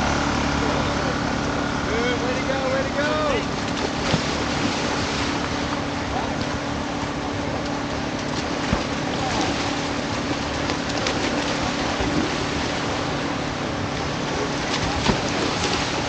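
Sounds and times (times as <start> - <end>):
swimmers splashing in water: 2.7 - 16.0.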